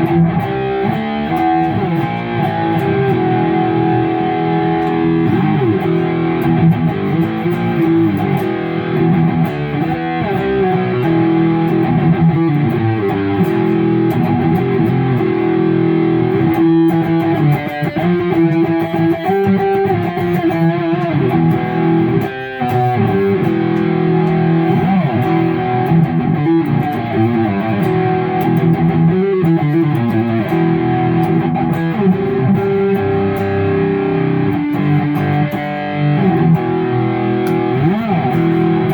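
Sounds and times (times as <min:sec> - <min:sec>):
electric guitar chords: 0:00.0 - 0:38.9.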